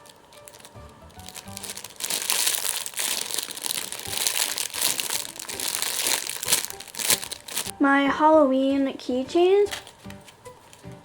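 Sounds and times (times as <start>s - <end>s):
crinkling wrapping rustling: 0.0s - 7.7s, 9.7s - 11.0s.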